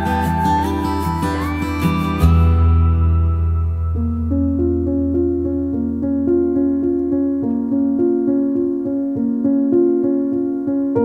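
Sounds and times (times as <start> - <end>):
held low tone: 0.0 - 10.1
keyboard playing repeated notes: 0.0 - 11.0.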